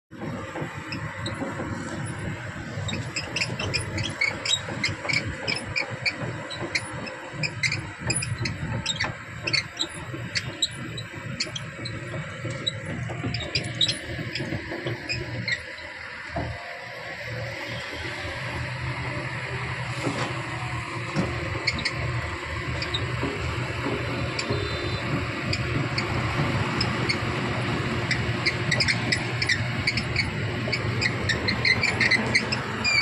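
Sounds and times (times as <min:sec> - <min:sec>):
metallic clicks and squeaks: 0:00.2 - 0:19.2, 0:20.0 - 0:33.0
machinery engine low rumble: 0:00.2 - 0:33.0.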